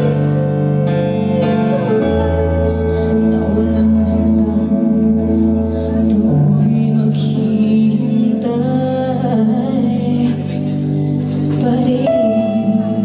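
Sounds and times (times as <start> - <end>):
guitar accompaniment: 0.0 - 13.0
woman singing into a microphone: 0.0 - 13.0.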